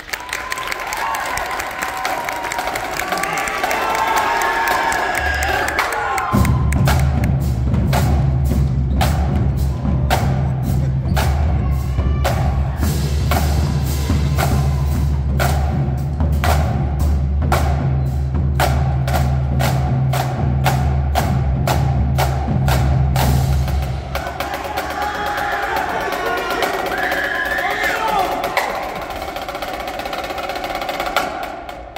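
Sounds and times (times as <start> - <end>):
marching drumline playing: 1.5 - 31.9.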